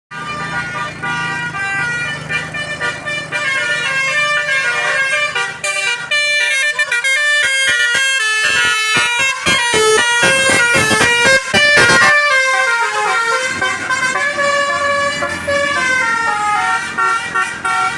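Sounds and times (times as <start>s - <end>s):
bus horn playing notes: 0.1s - 17.9s.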